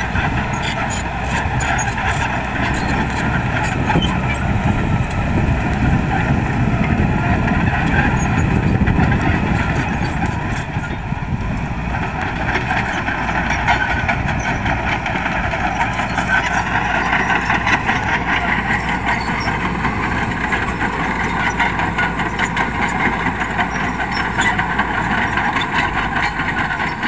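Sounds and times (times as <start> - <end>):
bulldozer diesel engine under load: 0.0 - 27.0.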